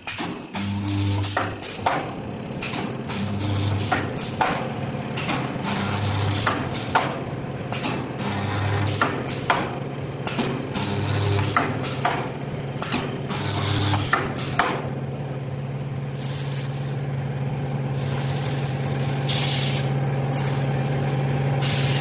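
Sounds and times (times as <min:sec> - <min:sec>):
welding machine electrical hum: 0:00.0 - 0:22.0.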